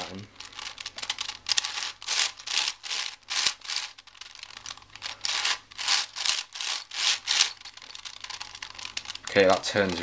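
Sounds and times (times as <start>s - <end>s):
puzzle cube clicking as turned: 0.4s - 10.0s.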